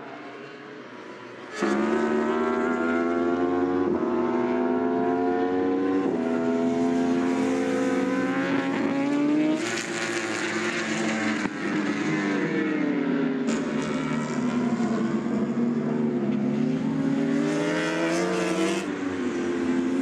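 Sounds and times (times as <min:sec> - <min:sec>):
superbike engine at high revs: 0:01.6 - 0:20.0.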